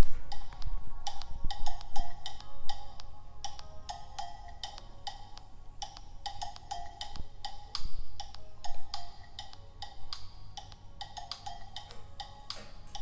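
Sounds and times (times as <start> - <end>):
music with clicking percussive beat: 0.0 - 13.0.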